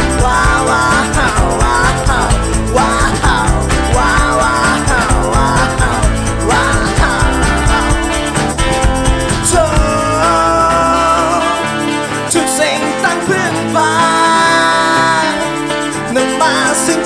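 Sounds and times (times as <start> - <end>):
voice holding long notes: 0.0 - 8.4, 9.3 - 15.6
electric guitar: 0.0 - 17.0
strummed acoustic guitars: 0.0 - 17.0
tambourine: 0.0 - 17.0.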